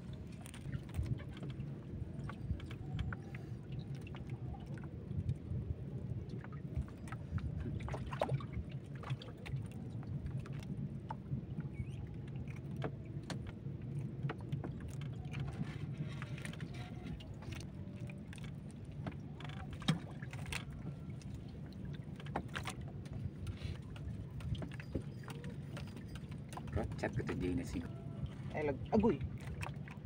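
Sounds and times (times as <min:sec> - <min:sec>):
water lapping against boat hull: 0:00.0 - 0:30.0.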